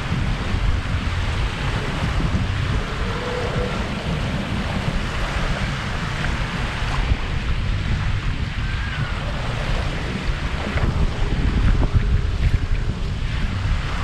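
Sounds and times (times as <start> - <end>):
lake waves washing against bank: 0.0 - 14.0
wind buffeting microphone: 0.0 - 14.0.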